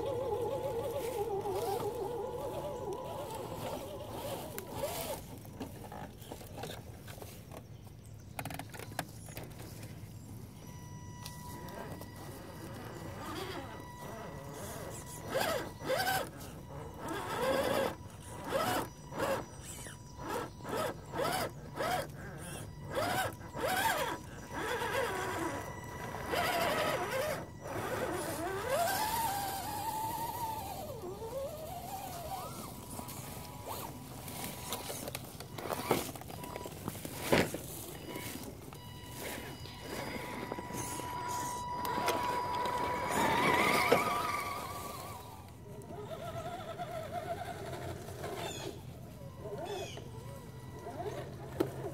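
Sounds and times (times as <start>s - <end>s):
rc truck motor whining: 0.0s - 51.9s.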